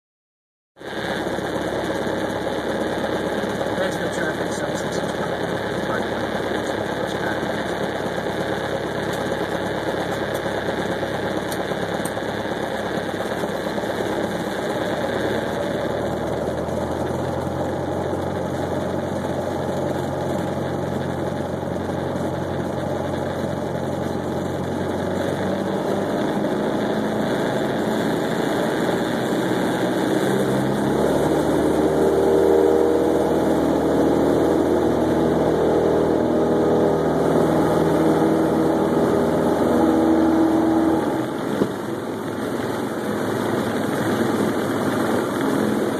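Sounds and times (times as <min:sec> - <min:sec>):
aircraft piston engine running: 0:00.8 - 0:45.9.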